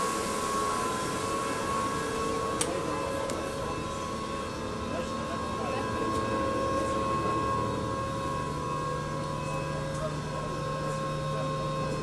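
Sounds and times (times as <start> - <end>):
boat engine drone: 0.0 - 12.0
low hum: 0.0 - 12.0.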